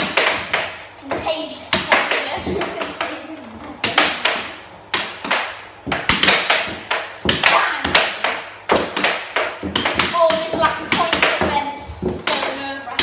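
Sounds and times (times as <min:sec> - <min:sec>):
air hockey puck clacking: 0:00.0 - 0:13.0.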